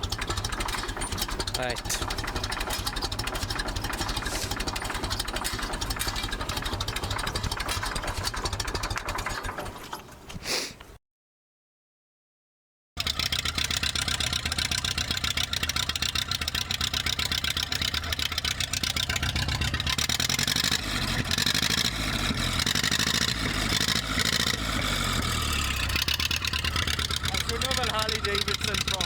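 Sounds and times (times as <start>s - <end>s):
tractor engine idling: 0.0s - 10.4s, 13.0s - 29.0s.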